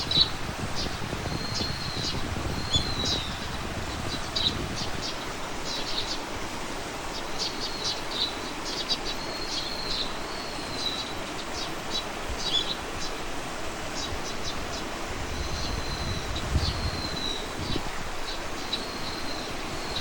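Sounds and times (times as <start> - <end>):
songbirds chirping: 0.0 - 20.0
steady background hiss: 0.0 - 20.0.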